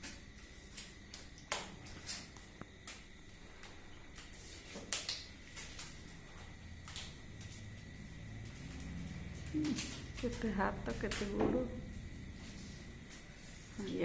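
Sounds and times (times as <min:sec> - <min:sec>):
faint steady high whine: 0:00.0 - 0:14.0.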